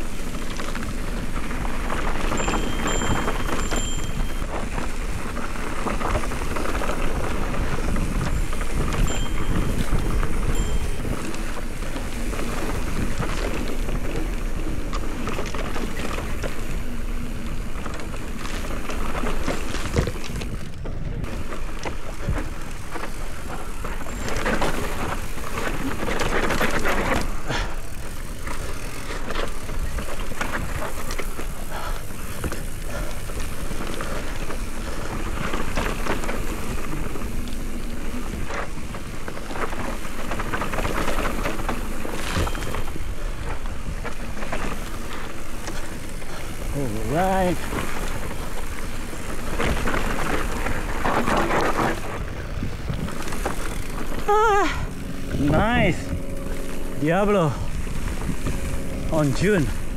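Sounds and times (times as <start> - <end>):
bike rattling and clicking: 0.0 - 59.9
tyres crunching over gravel: 0.0 - 59.9.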